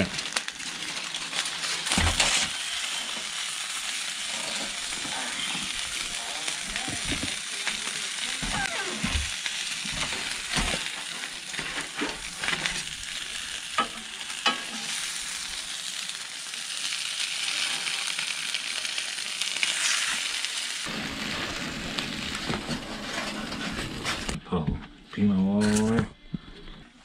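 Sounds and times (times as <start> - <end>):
food sizzling in a pan: 0.0 - 24.4.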